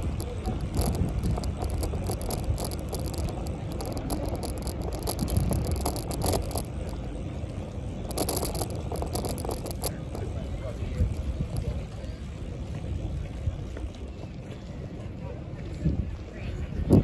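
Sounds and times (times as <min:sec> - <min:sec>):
bicycle clicks and rattles: 0:00.0 - 0:15.0
wind rumbling on microphone: 0:00.0 - 0:17.0.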